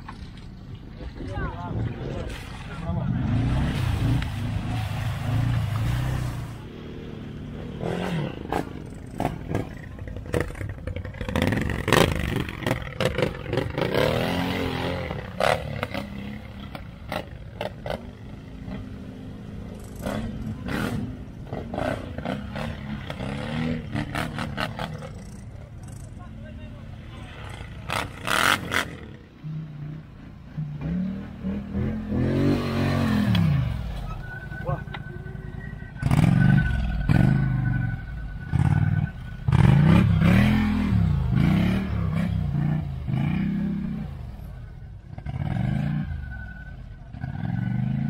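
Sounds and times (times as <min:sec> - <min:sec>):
quad bike engine revving: 0:02.9 - 0:44.5, 0:45.1 - 0:46.5, 0:47.1 - 0:48.0.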